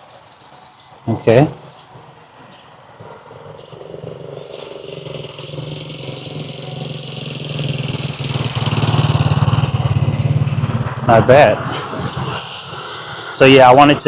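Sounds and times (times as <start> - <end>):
motorbike engine approaching: 0.0 - 14.0.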